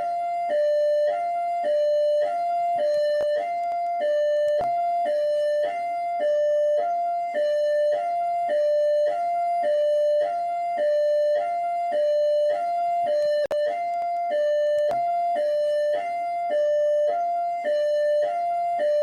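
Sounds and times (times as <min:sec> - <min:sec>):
police siren hi-lo tones: 0:00.0 - 0:19.0.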